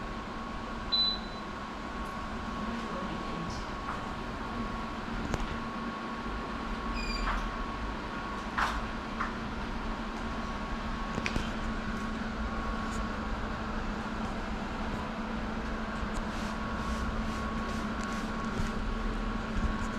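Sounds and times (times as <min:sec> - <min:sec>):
printer mechanical hum: 0:00.0 - 0:19.9.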